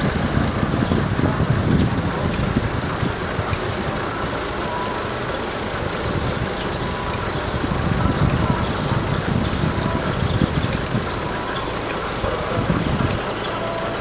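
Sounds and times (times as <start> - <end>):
low street noise rumble: 0.0 - 14.0
small birds chirping: 0.0 - 14.0.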